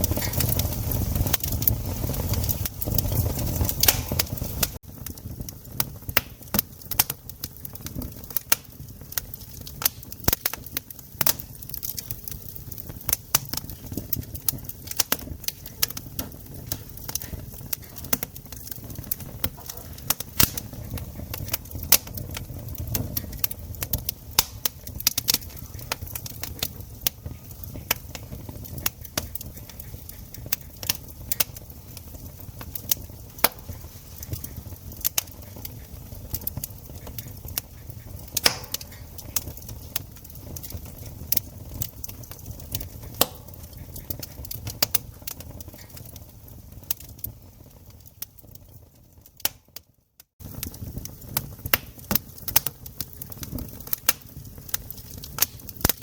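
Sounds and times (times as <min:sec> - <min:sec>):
campfire crackling and popping: 0:00.0 - 0:56.0
low rumble of fire: 0:00.0 - 0:56.0.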